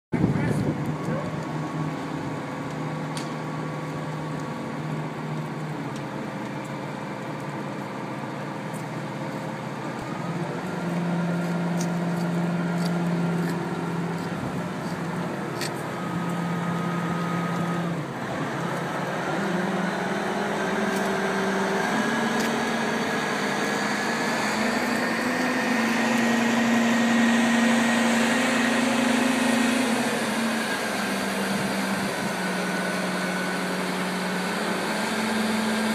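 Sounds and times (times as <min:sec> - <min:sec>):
crane engine revving: 0:00.2 - 0:35.9.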